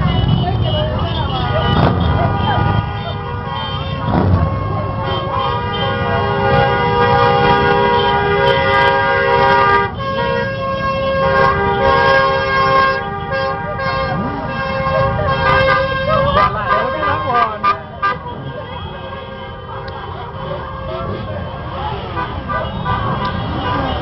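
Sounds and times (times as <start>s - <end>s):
motorbike horns honking: 0.0s - 24.0s.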